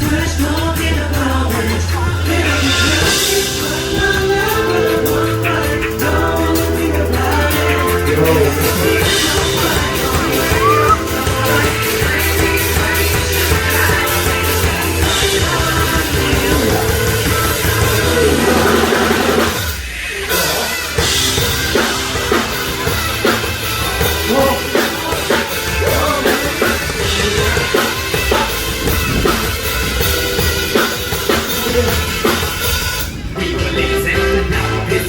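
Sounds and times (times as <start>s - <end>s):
live rock band: 0.0s - 35.0s.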